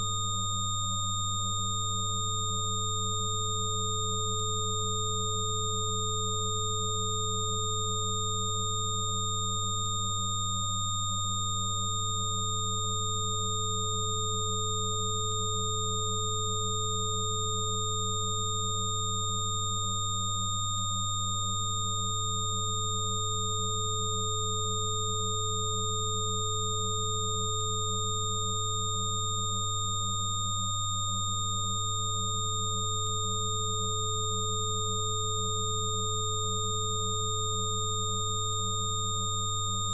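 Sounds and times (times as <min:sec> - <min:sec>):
steady sine tones: 0:00.0 - 0:39.9.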